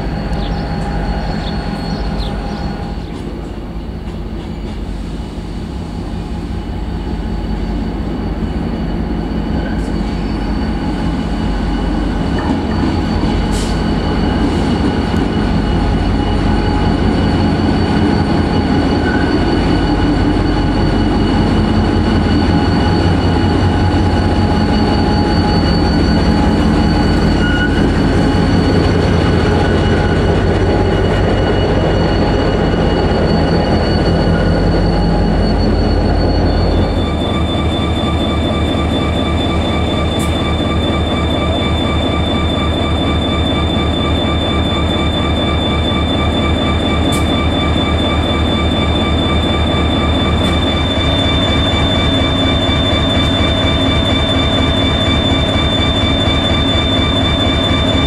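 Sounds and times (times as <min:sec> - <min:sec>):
diesel locomotive engine throbbing: 0:00.0 - 0:58.0
high whine: 0:06.6 - 0:58.0.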